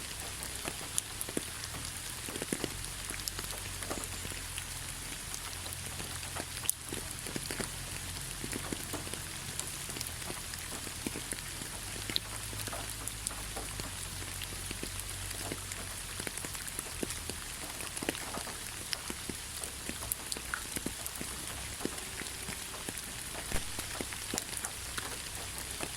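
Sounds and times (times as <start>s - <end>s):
rain falling: 0.0s - 25.9s
raindrops ticking: 0.0s - 25.9s.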